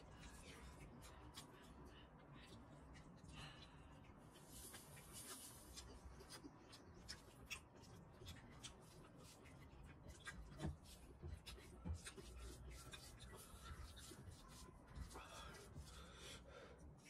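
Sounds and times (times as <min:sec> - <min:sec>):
fingers mixing rice on a plate: 0:00.0 - 0:16.4.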